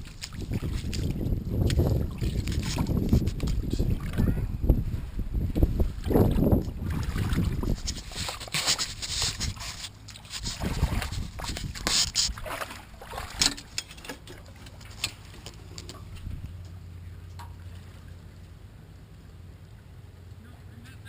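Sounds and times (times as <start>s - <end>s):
faint steady rumble: 0.0s - 21.0s
waves lapping against a hull: 0.0s - 21.0s.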